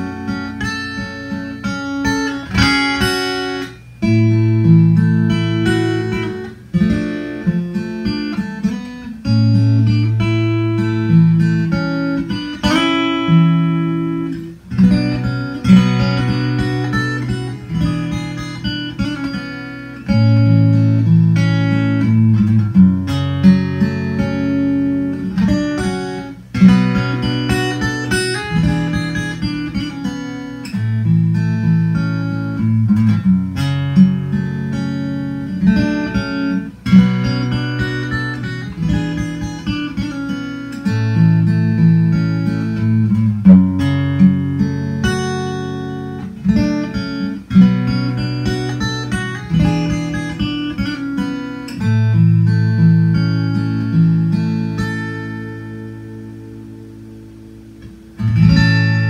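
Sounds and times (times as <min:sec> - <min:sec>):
fingerstyle acoustic guitar: 0:00.0 - 0:59.0.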